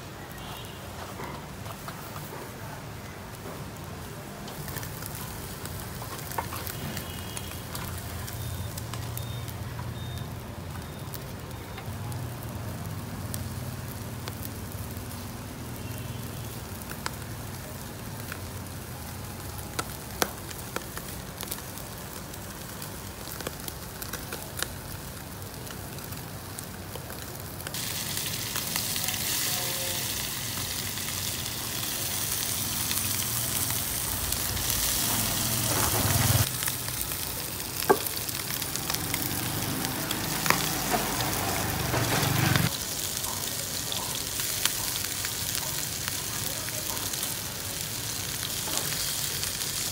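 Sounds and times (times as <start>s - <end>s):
fish sizzling on grill: 0.0s - 49.9s
charcoal crackling and popping: 0.1s - 49.9s
fish frying in a pan: 4.5s - 49.9s.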